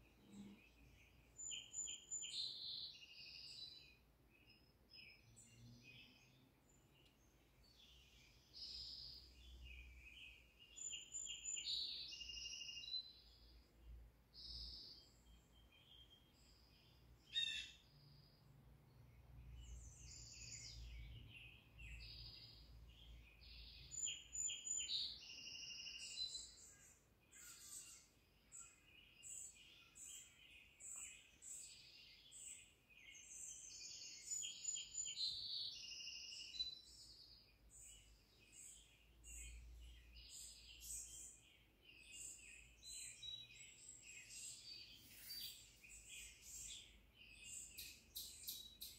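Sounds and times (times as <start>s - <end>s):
birds chirping and singing: 0.1s - 13.7s, 14.4s - 18.4s, 19.6s - 48.9s.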